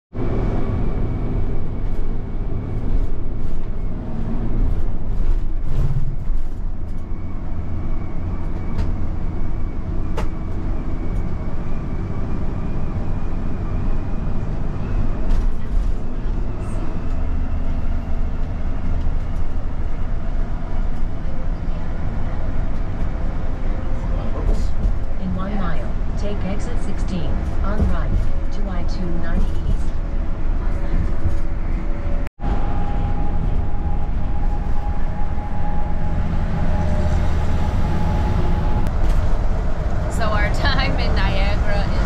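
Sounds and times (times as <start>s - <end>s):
engine and road rumble: 0.1s - 42.0s.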